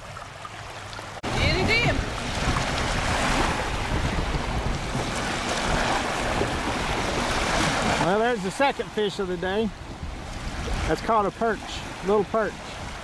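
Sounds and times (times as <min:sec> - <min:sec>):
small waves lapping on shore: 0:00.0 - 0:13.0
wind buffeting microphone: 0:01.2 - 0:13.0.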